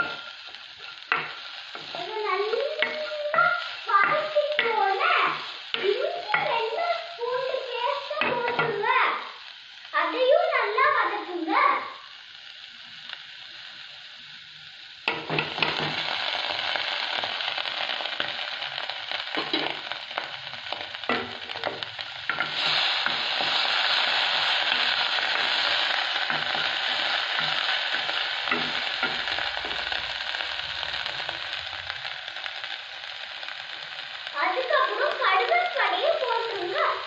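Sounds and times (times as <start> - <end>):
shallots sizzling in oil: 0.0 - 37.0.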